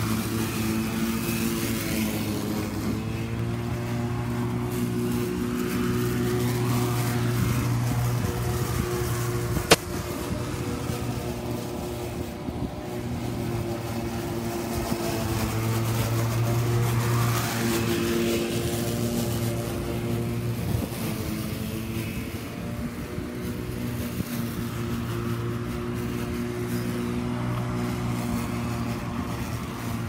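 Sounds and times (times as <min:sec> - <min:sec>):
cordless lawn mower humming: 0:00.0 - 0:30.0.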